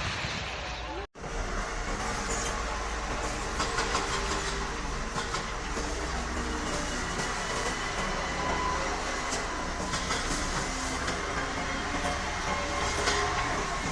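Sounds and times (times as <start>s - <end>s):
heavy demolition machinery running: 1.2s - 13.9s.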